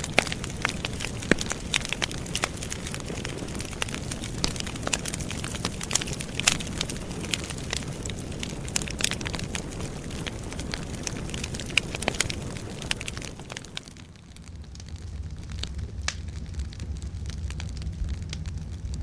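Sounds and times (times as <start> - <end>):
campfire flames rushing: 0.0 - 19.0
fire crackling and popping: 0.0 - 19.0.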